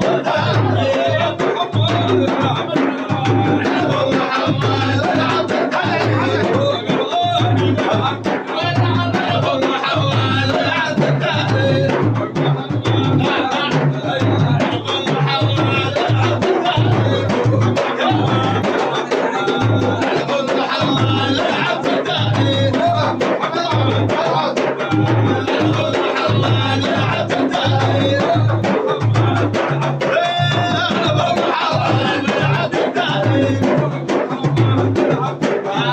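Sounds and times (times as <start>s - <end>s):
drums beating: 0.0s - 35.9s
voices chanting: 0.0s - 35.9s.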